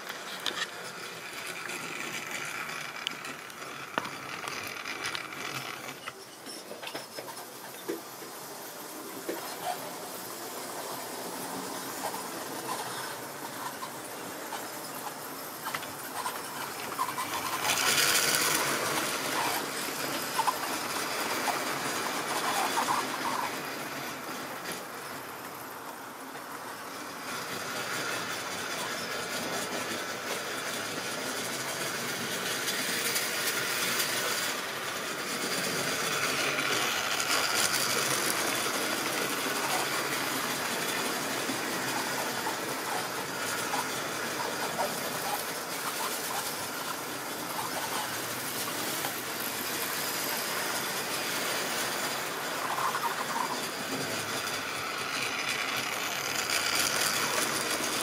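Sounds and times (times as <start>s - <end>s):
model train wheels on rails: 0.0s - 58.0s.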